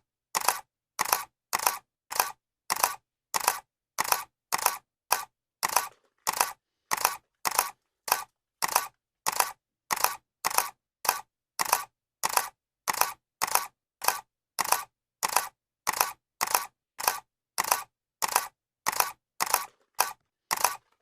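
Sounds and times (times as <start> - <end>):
camera shutter clicking: 0.4 - 21.0.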